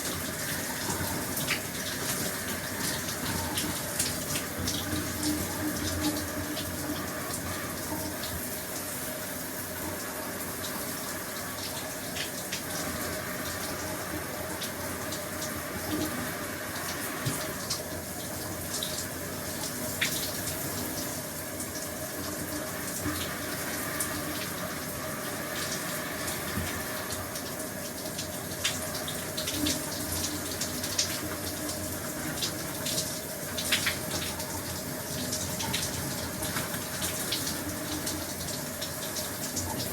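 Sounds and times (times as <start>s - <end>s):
shower spray running: 0.0s - 39.9s.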